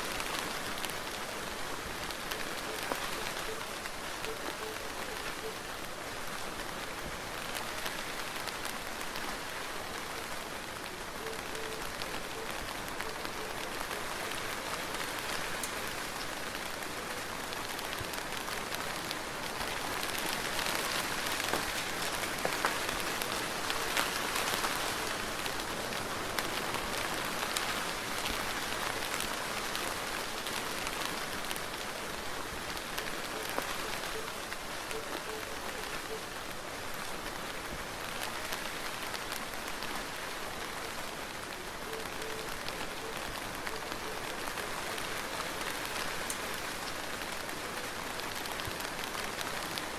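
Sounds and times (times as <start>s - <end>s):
soft steady rain: 0.0s - 49.9s.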